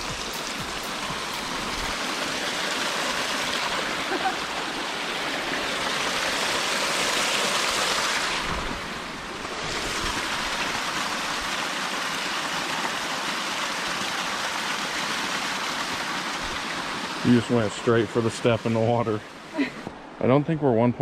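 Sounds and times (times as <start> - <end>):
water rushing over rocks: 0.0 - 20.4.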